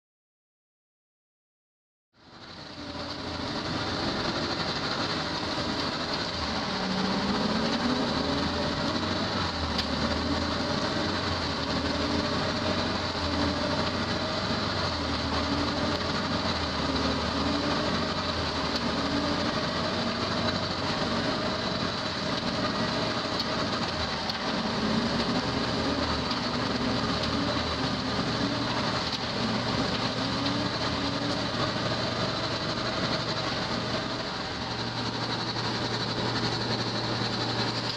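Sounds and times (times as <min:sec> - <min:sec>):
loud machine noise: 0:02.2 - 0:37.9
thin machine whine: 0:02.2 - 0:37.9.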